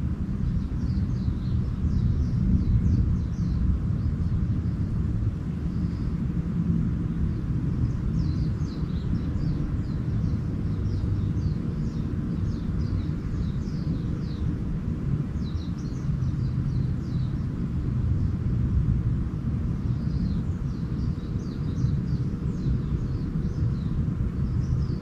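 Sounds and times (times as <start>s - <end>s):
low rumble: 0.0s - 25.0s
small birds twittering: 0.0s - 25.0s.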